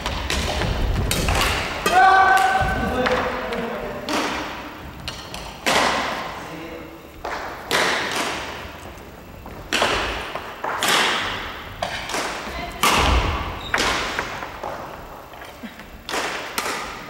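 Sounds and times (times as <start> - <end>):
racket smacking shuttlecock: 0.0 - 6.5, 7.1 - 17.0.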